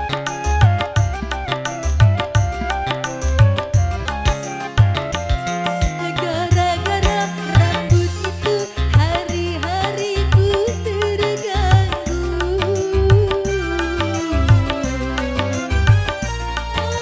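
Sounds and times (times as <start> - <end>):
hand drum beat: 0.0 - 17.0
live band music: 0.0 - 17.0.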